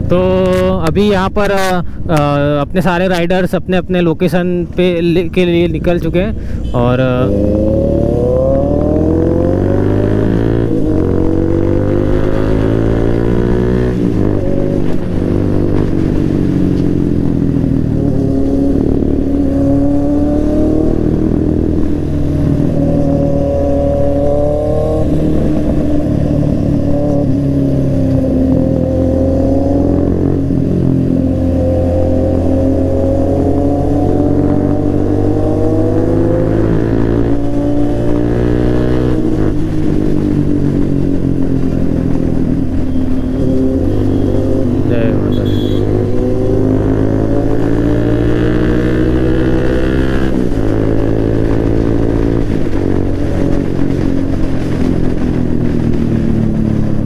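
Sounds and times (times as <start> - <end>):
motorcycle engine accelerating: 5.3 - 57.0.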